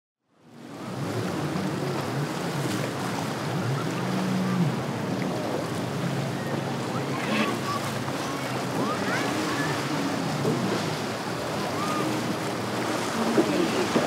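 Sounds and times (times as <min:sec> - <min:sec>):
boat engines humming: 0:00.3 - 0:14.0.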